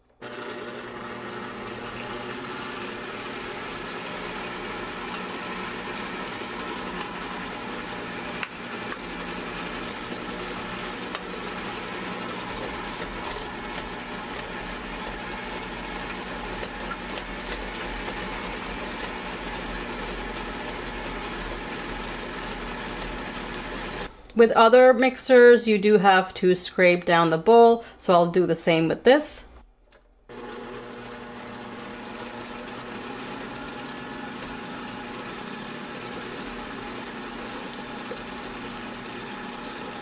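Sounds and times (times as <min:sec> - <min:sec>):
stand mixer motor running: 0:00.0 - 0:24.1, 0:30.3 - 0:40.0.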